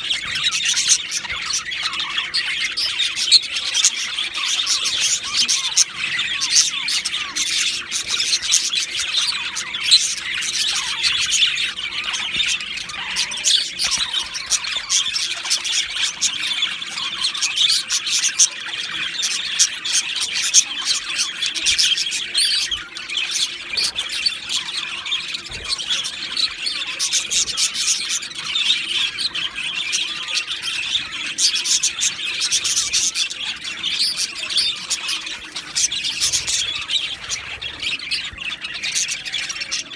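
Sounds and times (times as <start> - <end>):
budgerigars warbling and chattering: 0.0 - 39.9.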